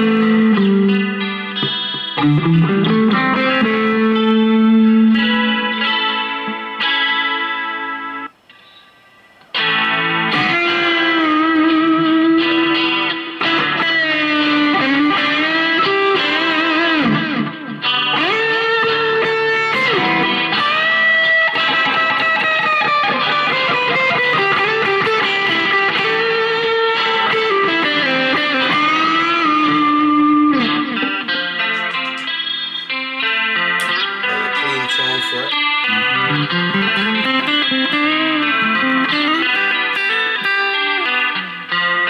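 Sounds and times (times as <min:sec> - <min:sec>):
electric guitar through amplifier: 0:00.0 - 0:42.0.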